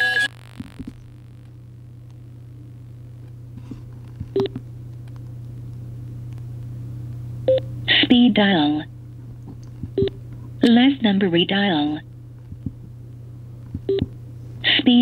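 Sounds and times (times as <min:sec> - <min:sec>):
speaker low hum: 0:00.0 - 0:15.0.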